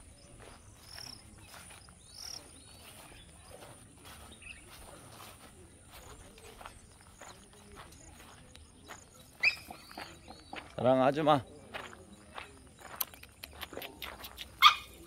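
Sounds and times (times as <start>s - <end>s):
footsteps on gravel: 0.0s - 15.0s.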